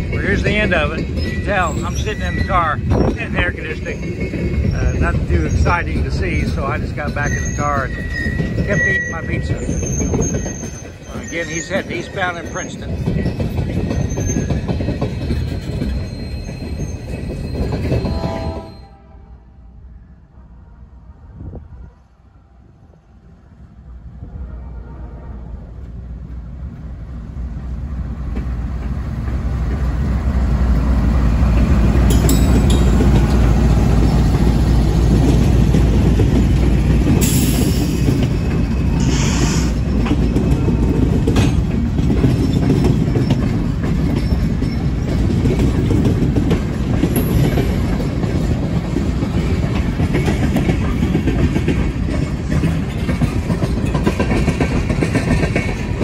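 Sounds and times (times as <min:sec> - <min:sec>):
train wheels clattering on rails: 0:00.0 - 0:18.8, 0:25.8 - 0:56.0
diesel locomotive engine drone: 0:00.0 - 0:56.0.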